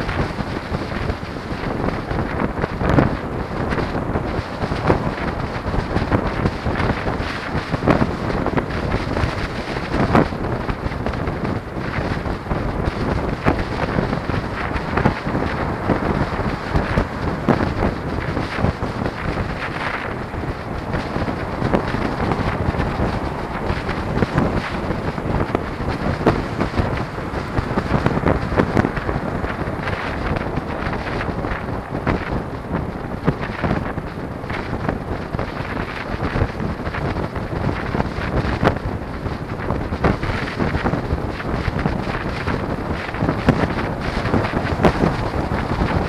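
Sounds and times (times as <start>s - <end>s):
road rumble: 0.0s - 46.0s
wind buffeting microphone: 0.0s - 46.0s.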